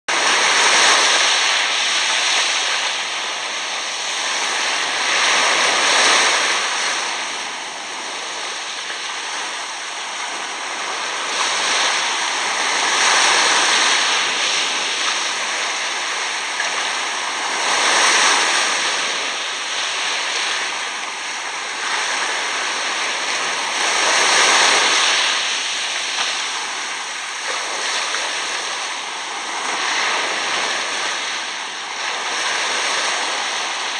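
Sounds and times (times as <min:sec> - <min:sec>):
small waves washing on sand: 0:00.1 - 0:33.9.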